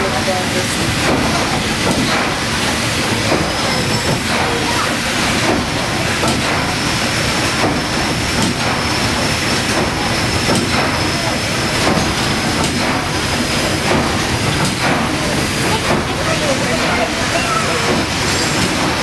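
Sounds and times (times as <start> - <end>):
steam engine running: 0.0 - 19.0.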